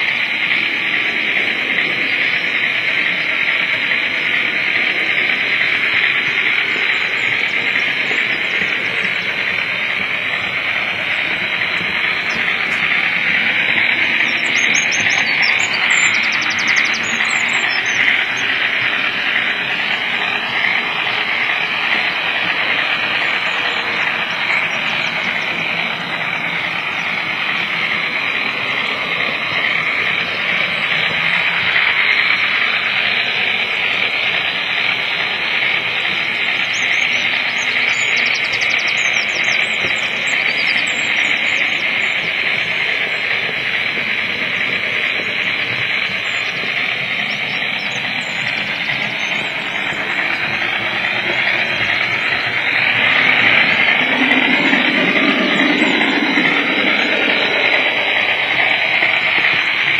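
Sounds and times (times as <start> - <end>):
model train running on rails: 0.0 - 59.9.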